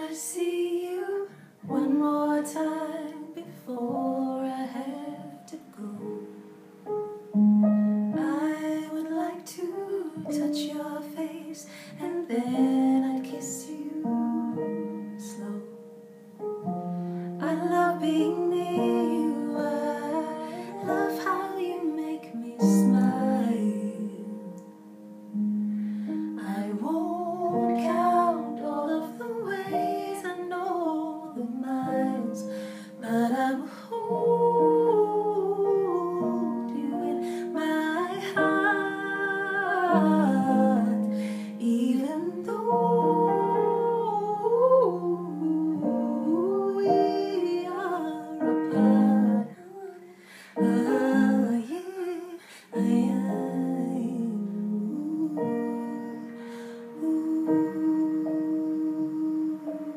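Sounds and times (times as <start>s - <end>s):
woman singing slow melody: 0.0s - 6.5s, 8.0s - 59.9s.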